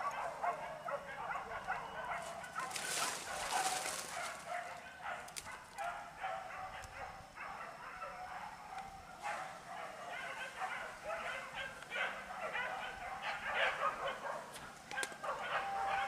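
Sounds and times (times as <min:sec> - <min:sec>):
dogs barking and yelping: 0:00.0 - 0:16.0.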